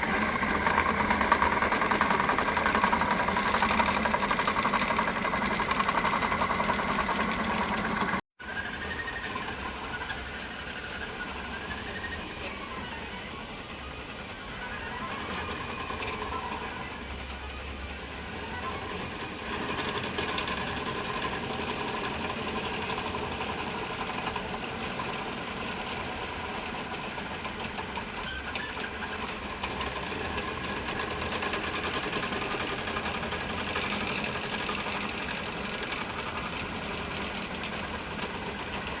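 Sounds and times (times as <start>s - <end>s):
printer stepper motors whirring: 0.0s - 39.0s.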